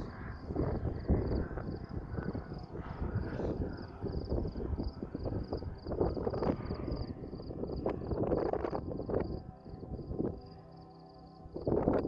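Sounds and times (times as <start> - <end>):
wind buffeting microphone: 0.0 - 10.6, 11.4 - 12.0
steady low hum: 0.0 - 12.0.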